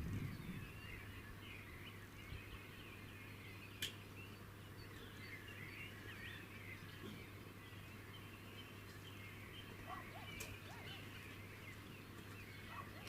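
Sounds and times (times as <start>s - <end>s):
small birds twittering: 0.0s - 13.0s.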